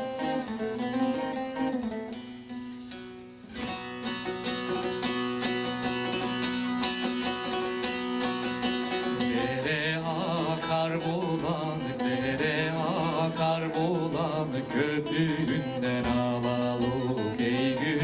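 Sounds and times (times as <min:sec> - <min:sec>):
strummed strings: 0:00.0 - 0:18.0.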